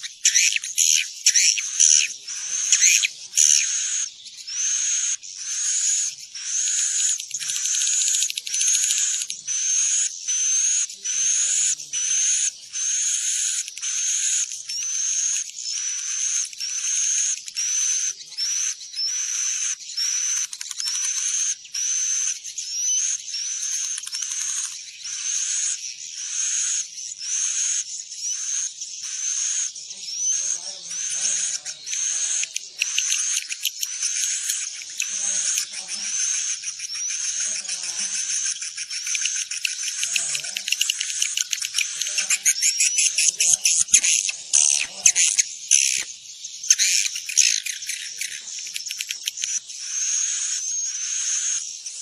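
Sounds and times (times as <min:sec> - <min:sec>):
swiftlet lure calls: 0:00.0 - 0:10.0, 0:12.1 - 0:25.8, 0:30.8 - 0:51.5.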